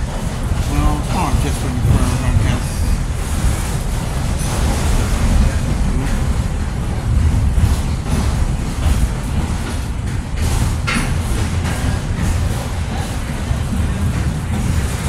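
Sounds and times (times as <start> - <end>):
knocks and rattles: 0.0 - 15.0
train wheels rumbling on rail: 0.0 - 15.0.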